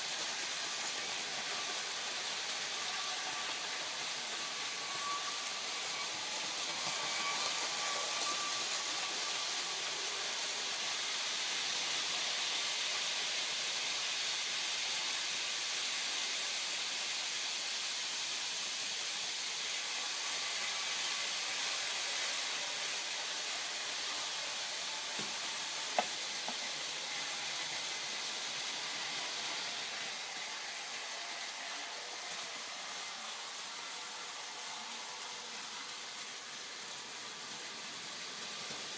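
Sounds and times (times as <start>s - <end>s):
model train motors whirring: 0.0s - 38.9s.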